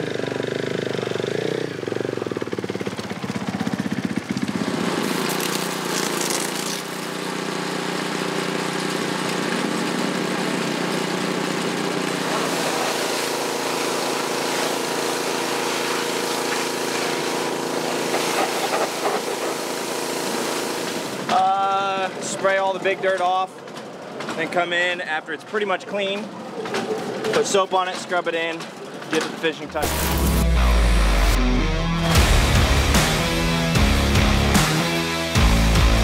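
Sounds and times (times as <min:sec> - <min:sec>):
small engine running: 0:00.0 - 0:23.0, 0:28.8 - 0:36.0.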